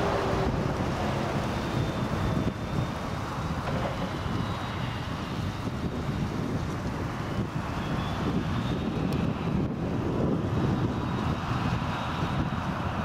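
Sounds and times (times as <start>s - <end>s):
harvester machinery drone: 0.0s - 13.0s.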